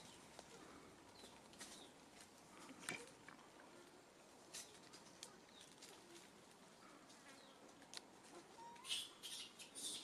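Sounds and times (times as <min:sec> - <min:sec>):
faint forest ambience: 0:00.0 - 0:10.0.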